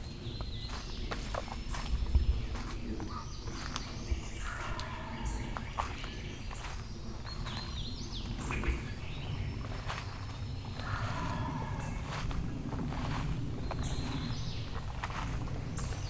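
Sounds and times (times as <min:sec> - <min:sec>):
songbirds singing: 0:00.0 - 0:16.0
steady low rumble: 0:00.0 - 0:16.0.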